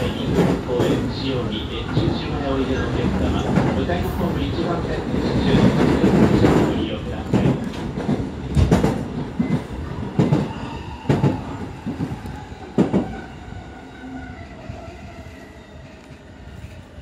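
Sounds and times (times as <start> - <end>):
train rolling noise: 0.0 - 17.0.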